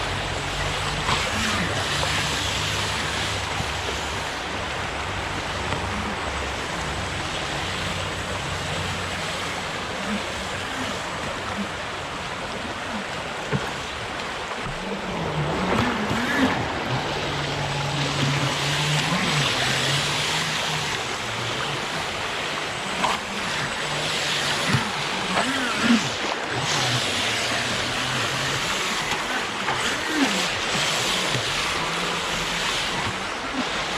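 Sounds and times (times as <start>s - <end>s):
creek rushing: 0.0s - 33.9s.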